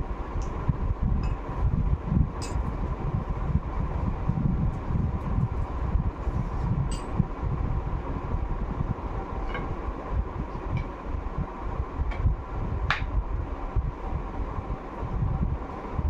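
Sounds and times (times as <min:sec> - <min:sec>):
faint steady hum: 0:00.0 - 0:16.0
room fan running: 0:00.0 - 0:16.0.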